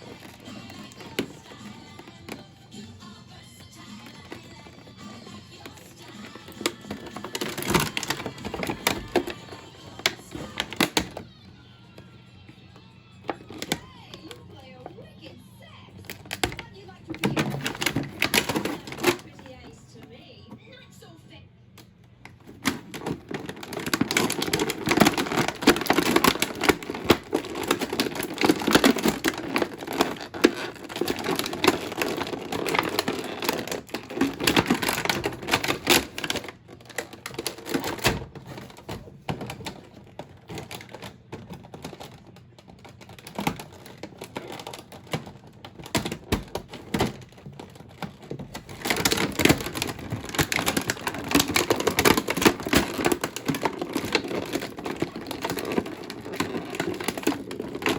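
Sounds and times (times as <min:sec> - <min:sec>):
packaging clicking and crackling: 0:00.0 - 0:20.0, 0:21.7 - 0:57.9.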